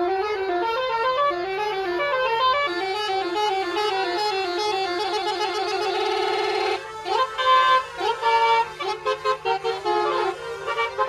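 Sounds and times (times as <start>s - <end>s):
musical vehicle horn melody: 0.0s - 11.0s.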